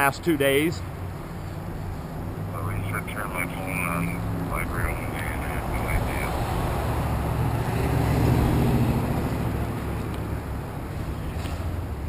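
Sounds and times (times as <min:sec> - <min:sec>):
street traffic: 0:00.0 - 0:12.0
vehicle passing by: 0:00.8 - 0:12.0.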